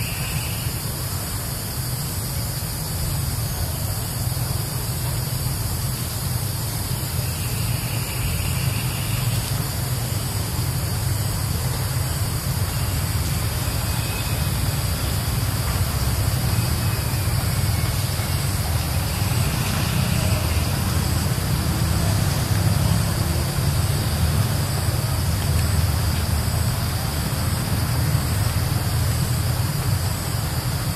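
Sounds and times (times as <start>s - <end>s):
even hiss: 0.0s - 30.9s.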